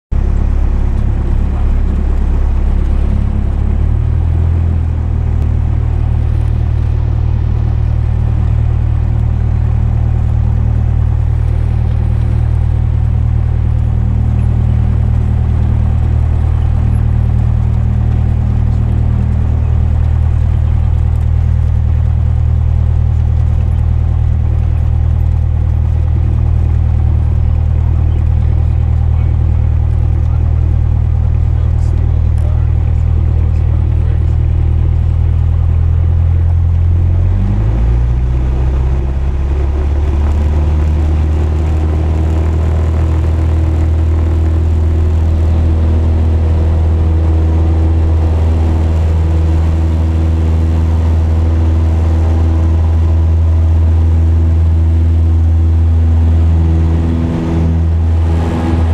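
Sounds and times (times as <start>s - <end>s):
light aircraft engine droning: 0.1s - 58.9s.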